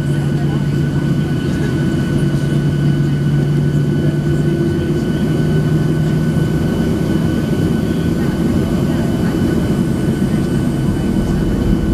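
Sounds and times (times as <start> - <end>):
aircraft cabin engine hum: 0.0 - 11.9.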